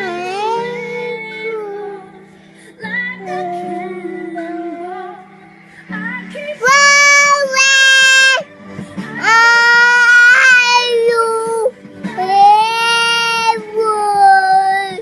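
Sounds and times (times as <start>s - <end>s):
child singing: 0.0s - 2.1s, 3.0s - 5.2s, 6.3s - 8.4s, 9.2s - 15.0s.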